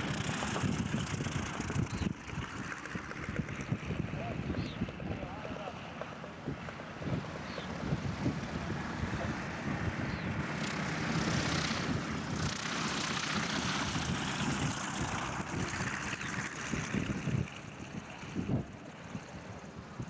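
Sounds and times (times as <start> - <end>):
propeller airplane engine running: 0.0 - 20.0.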